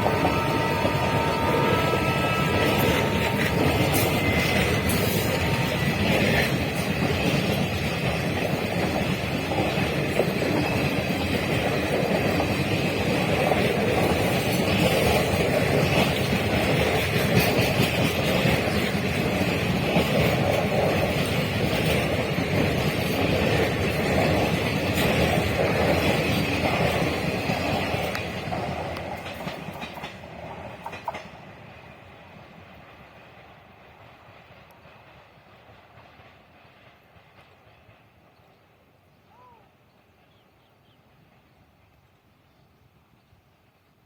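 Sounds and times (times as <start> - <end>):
train wheels on rails: 0.0 - 42.3.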